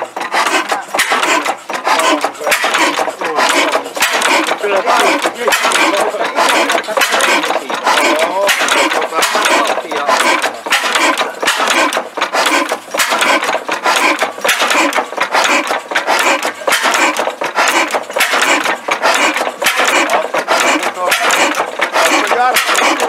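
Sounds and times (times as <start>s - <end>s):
old engine running: 0.0s - 23.0s.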